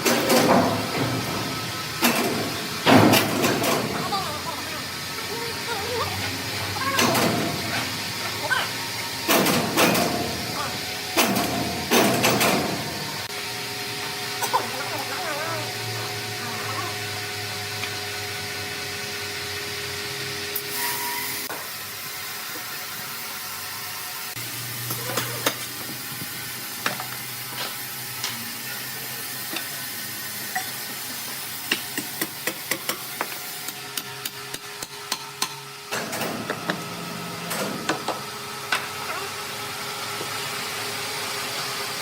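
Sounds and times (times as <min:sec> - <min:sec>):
machinery humming: 0:00.0 - 0:42.0.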